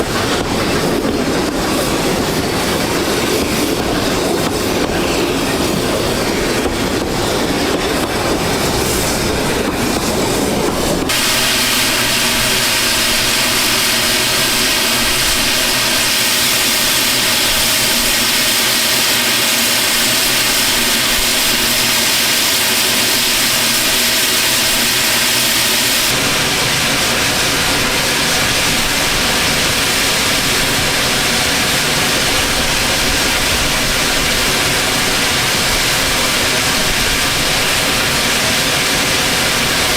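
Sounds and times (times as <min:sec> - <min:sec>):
loud steam hiss: 0:00.0 - 0:39.9
train wheels clicking over rail joints: 0:00.0 - 0:39.9.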